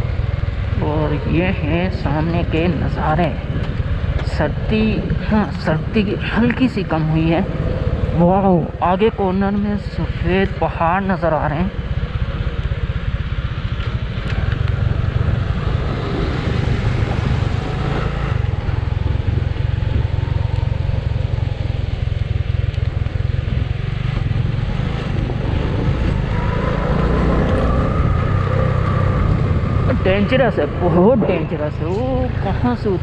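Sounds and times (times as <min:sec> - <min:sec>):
motorcycle engine running: 0:00.0 - 0:33.0
wind noise: 0:00.0 - 0:33.0.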